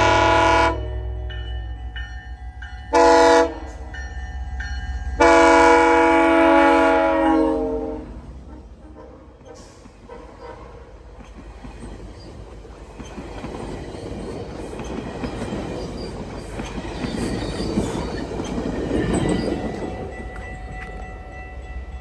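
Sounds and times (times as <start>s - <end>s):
train rumble and wheel clatter: 0.0s - 22.0s.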